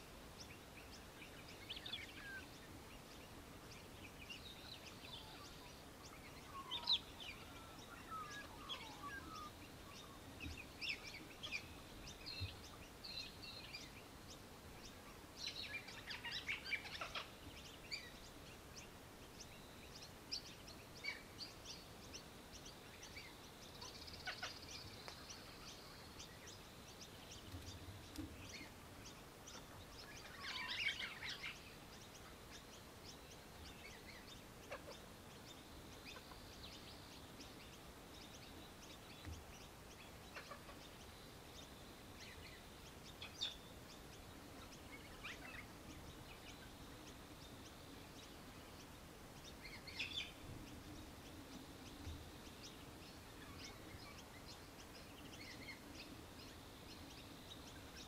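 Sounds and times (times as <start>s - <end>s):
birds chirping: 0.0s - 58.0s
faint outdoor hiss: 0.0s - 58.0s.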